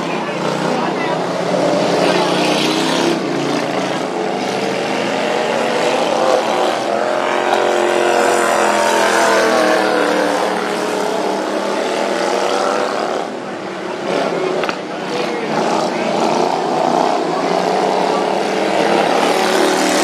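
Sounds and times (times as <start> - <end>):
racing lawnmower engines revving: 0.0 - 20.0.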